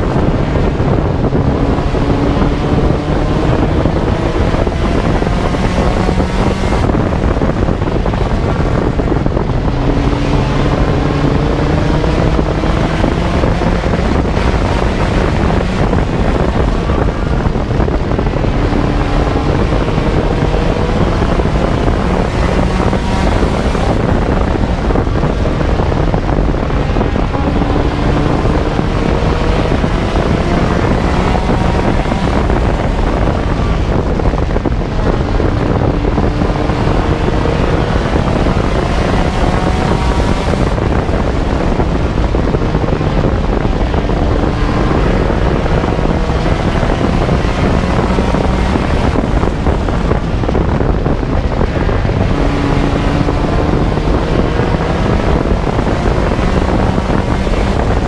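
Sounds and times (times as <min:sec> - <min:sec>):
race car engine accelerating: 0:00.0 - 0:58.0
wind noise on microphone: 0:00.0 - 0:58.0.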